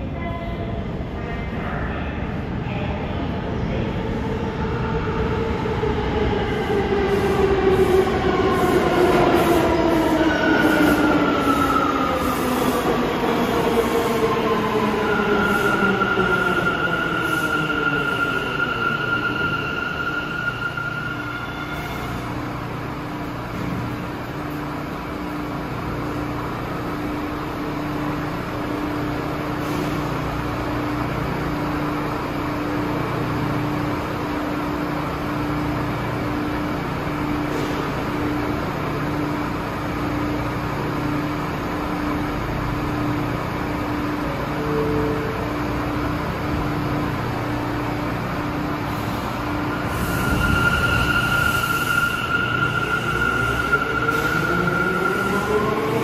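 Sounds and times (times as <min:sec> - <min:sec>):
subway platform rumble: 0:00.0 - 0:56.0.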